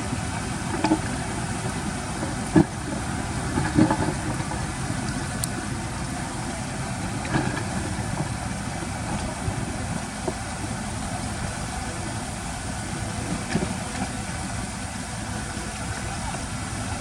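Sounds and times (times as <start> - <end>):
earthmoving machine engine running: 0.0 - 17.0.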